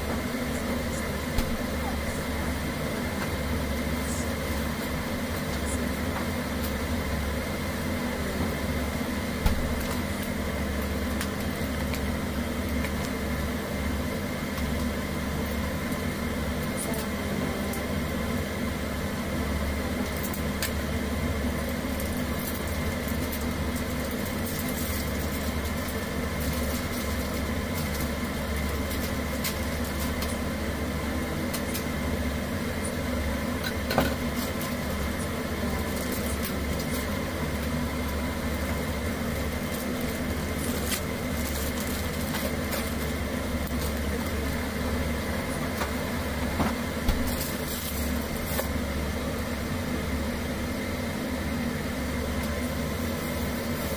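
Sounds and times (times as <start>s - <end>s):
kitchen fan motor humming: 0.0s - 53.9s.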